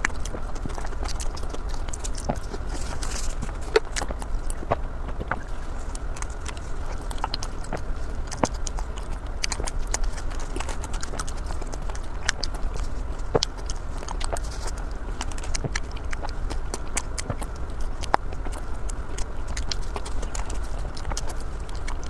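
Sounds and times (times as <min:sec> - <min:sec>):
chewing and crunching bread: 0:00.0 - 0:22.0
steady low hum: 0:00.0 - 0:22.0.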